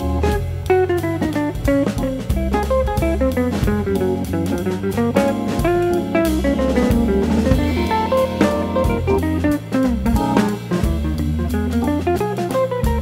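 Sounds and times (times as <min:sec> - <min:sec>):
bass line: 0:00.0 - 0:13.0
drum kit beat: 0:00.0 - 0:13.0
plucked guitar: 0:00.0 - 0:13.0.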